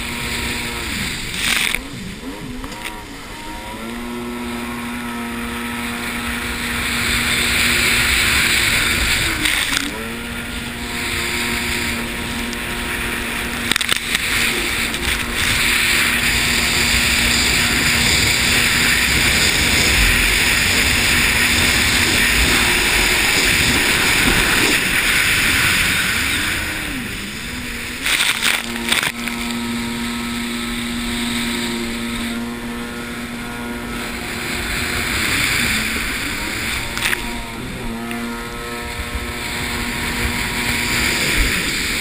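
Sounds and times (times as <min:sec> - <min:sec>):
jet ski engine running: 0:00.0 - 0:42.0
wind and spray rushing: 0:00.0 - 0:42.0.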